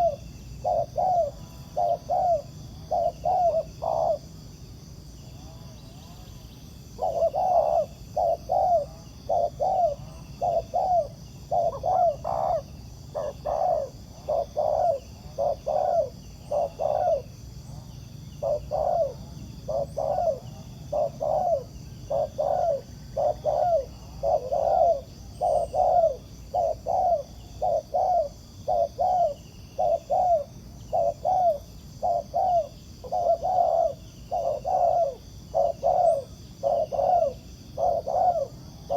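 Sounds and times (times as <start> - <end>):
doves cooing: 0.0 - 4.4, 7.0 - 38.9.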